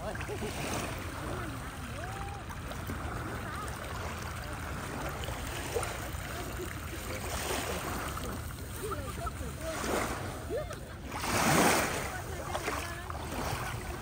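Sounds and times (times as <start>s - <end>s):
waves rushing at shore: 0.0s - 14.0s.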